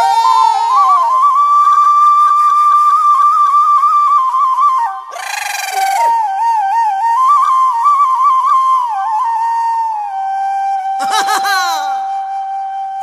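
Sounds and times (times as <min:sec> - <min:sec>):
flute melody with trills: 0:00.0 - 0:13.0.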